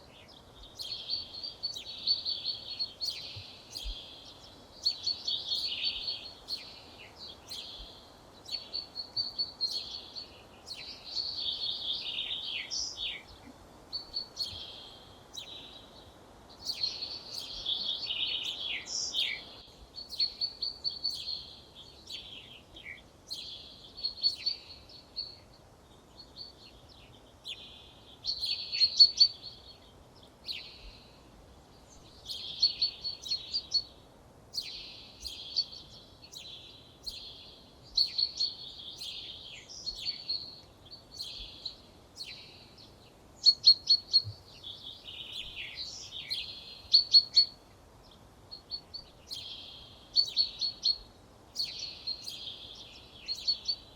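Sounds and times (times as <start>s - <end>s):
faint background hiss: 0.0s - 53.9s
songbird singing: 0.0s - 53.9s.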